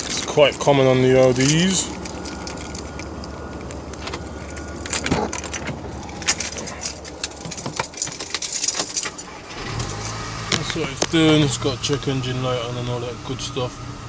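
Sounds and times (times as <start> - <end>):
car engine idling lumpy: 0.0 - 14.0.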